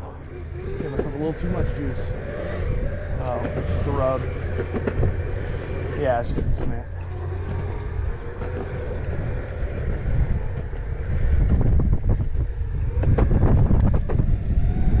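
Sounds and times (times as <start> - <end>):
skateboard wheels rumbling on concrete: 0.0 - 15.0
wind buffeting microphone: 0.0 - 15.0.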